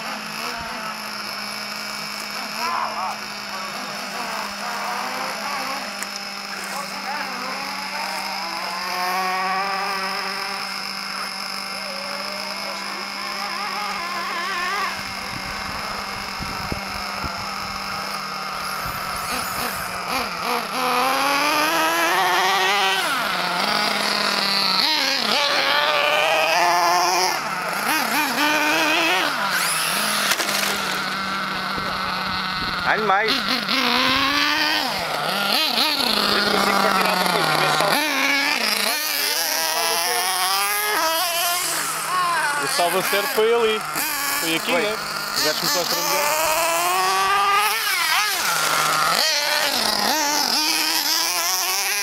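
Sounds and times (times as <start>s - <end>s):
toy car motor whining: 0.0s - 52.0s.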